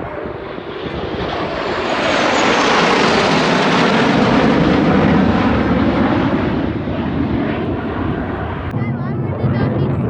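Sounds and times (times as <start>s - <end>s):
fighter jet roar: 0.0s - 10.0s.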